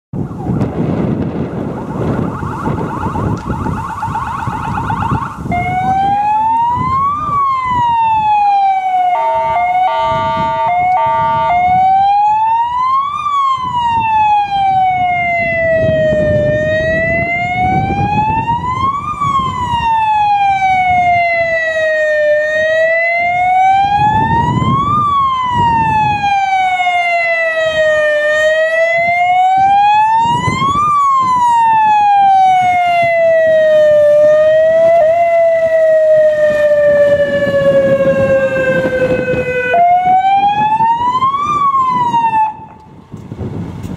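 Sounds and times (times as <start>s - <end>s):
electronic siren warbling and wailing: 0.2s - 42.8s.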